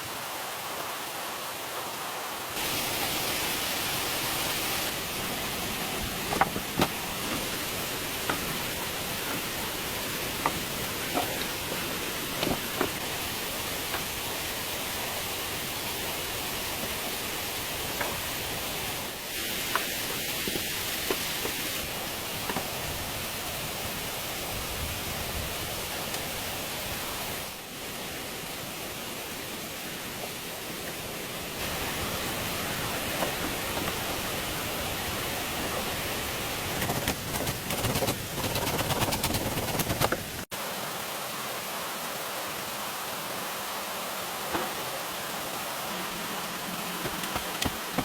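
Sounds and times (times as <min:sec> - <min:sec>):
steady rushing hiss: 0:00.0 - 0:48.0.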